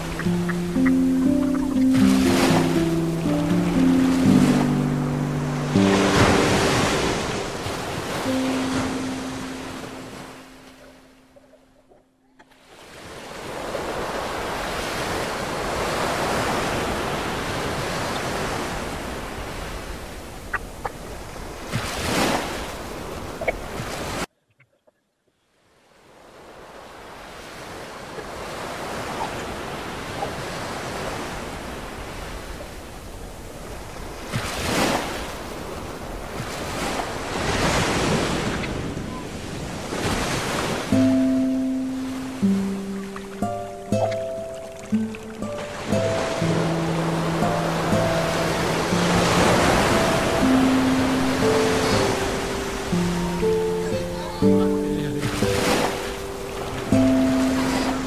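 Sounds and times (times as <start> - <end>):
water rushing and sloshing: 0.0 - 11.7, 12.4 - 24.3, 26.1 - 58.0.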